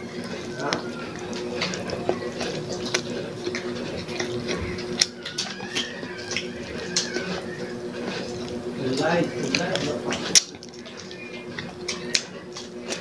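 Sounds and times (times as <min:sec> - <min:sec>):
steady low hum: 0:00.0 - 0:13.0
wet mouth clicks and smacks chewing: 0:00.1 - 0:13.0.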